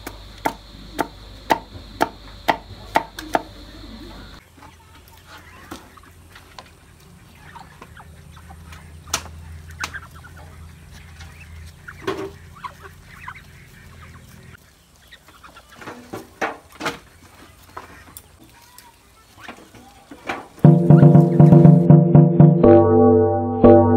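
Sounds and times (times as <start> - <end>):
ducks calling softly: 2.2 - 21.9.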